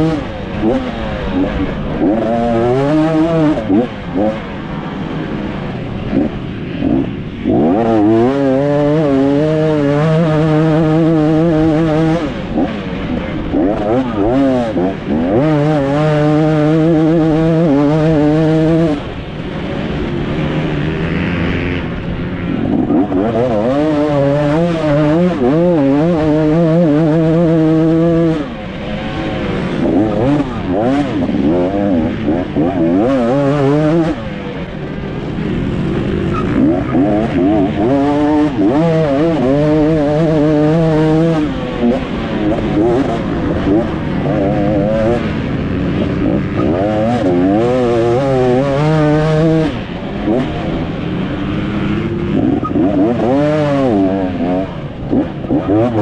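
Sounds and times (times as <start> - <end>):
dirt bike engine revving high: 0.0 - 56.0.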